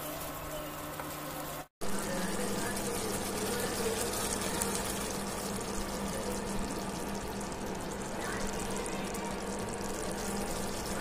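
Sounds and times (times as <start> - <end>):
gravy bubbling and sputtering: 0.0 - 11.0.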